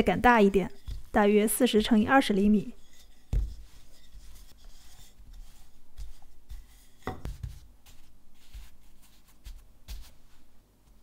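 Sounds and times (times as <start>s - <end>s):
hands smoothing dough: 0.0s - 11.0s
rolling pin rolling dough: 0.0s - 11.0s.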